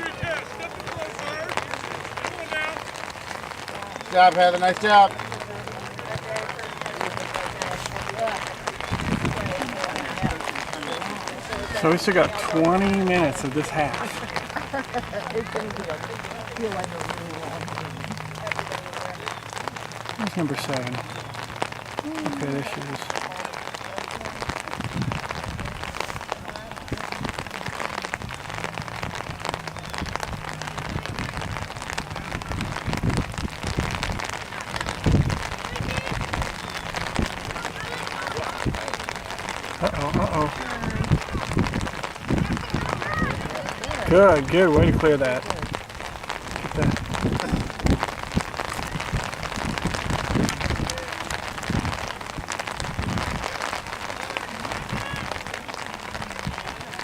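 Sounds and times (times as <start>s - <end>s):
faint distant voices: 0.0s - 57.0s
low rumbles: 0.0s - 57.0s
rain patter: 0.0s - 57.0s.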